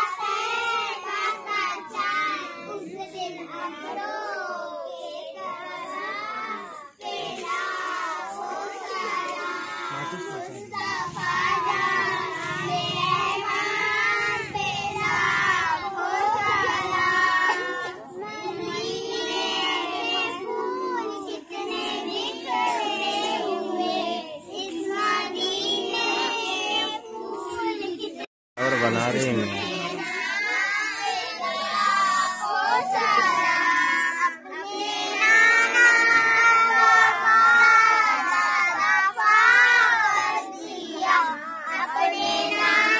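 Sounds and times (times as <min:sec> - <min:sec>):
children singing together: 0:00.0 - 0:42.9.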